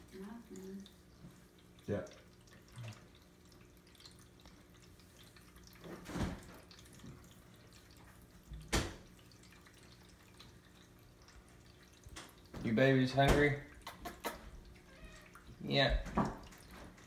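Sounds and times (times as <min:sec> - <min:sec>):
water fountain hum: 0:00.0 - 0:17.0
water trickling and dripping: 0:00.0 - 0:17.0.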